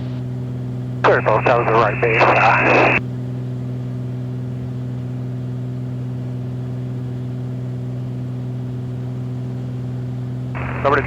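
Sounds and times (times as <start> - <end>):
aircraft engine and propeller droning: 0.0 - 11.0.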